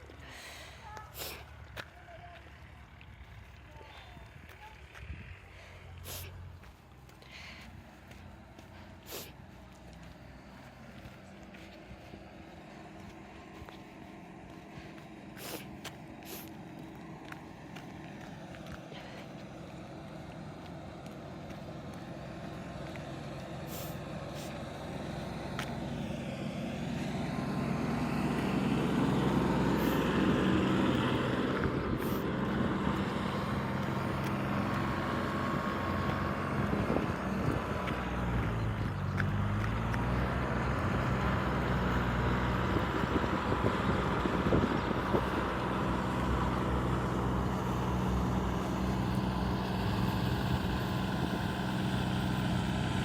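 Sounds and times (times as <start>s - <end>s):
vehicle engine approaching: 0.0s - 53.0s.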